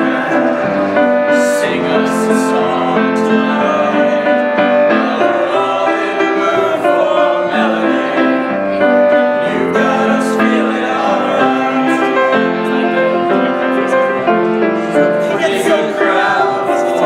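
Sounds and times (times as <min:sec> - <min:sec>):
grand piano: 0:00.0 - 0:17.0
man singing: 0:00.0 - 0:17.0.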